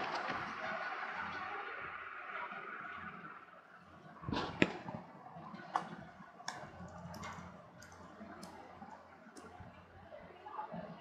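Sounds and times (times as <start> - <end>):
faint clicks: 0.0 - 9.9
low background noise: 0.0 - 11.0.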